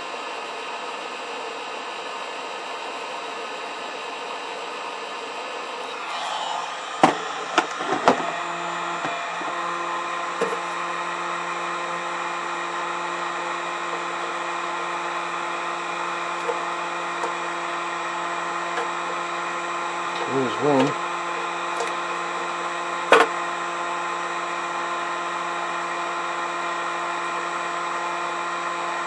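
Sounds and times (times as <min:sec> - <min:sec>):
heat gun blower running: 0:02.7 - 0:29.0.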